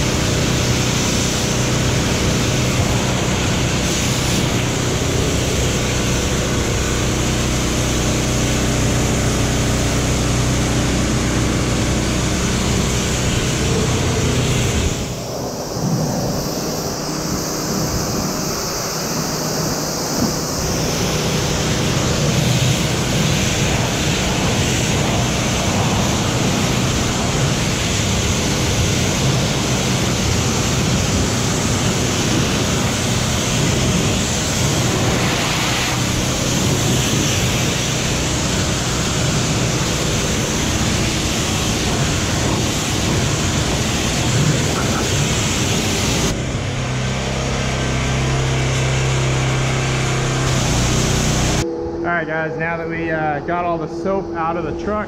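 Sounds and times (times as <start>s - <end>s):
pressure washer spray hissing: 0.0s - 51.6s.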